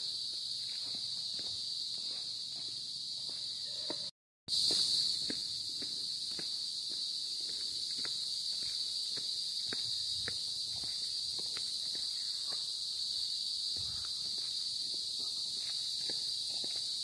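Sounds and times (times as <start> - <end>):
high-pitched insect chorus: 0.0 - 17.0
footsteps on concrete: 0.2 - 17.0.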